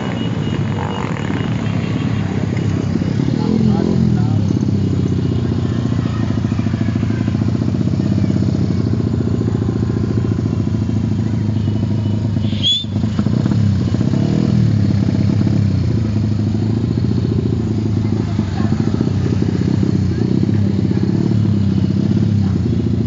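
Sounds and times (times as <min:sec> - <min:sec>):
motorcycle engines droning: 0:00.0 - 0:23.0.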